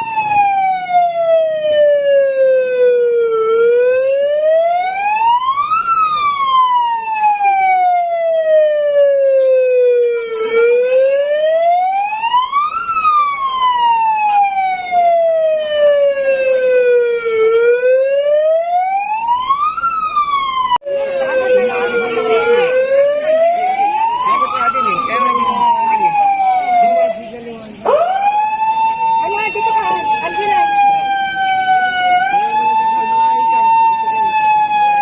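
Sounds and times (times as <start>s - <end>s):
electronic siren wailing: 0.0s - 35.0s.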